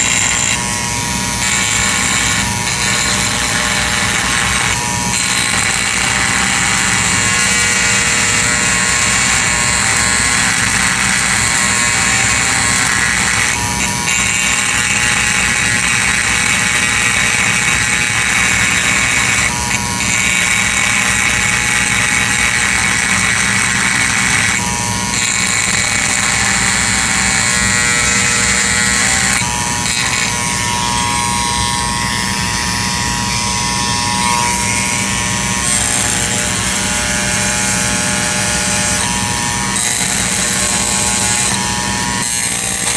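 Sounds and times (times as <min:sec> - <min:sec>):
rotary tool engraving metal: 0:00.0 - 0:42.9.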